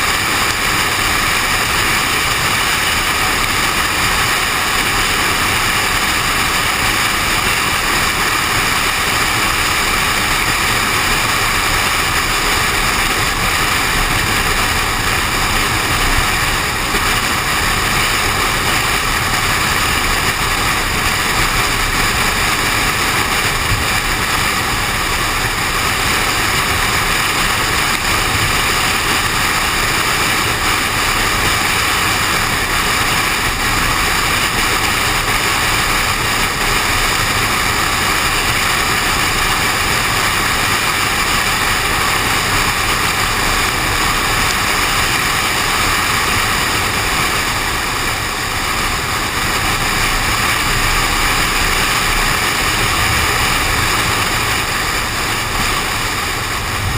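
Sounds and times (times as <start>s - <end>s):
car driving in rain rushing: 0.0s - 56.9s.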